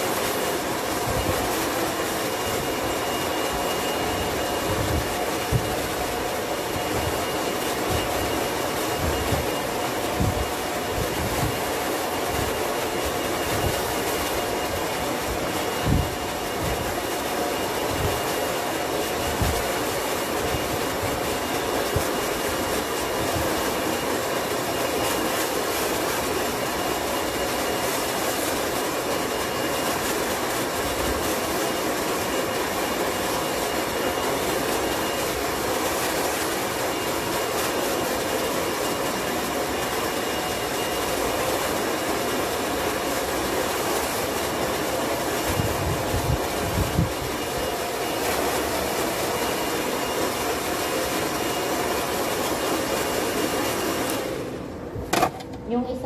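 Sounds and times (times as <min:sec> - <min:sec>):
loud rushing machine noise: 0:00.0 - 0:55.2.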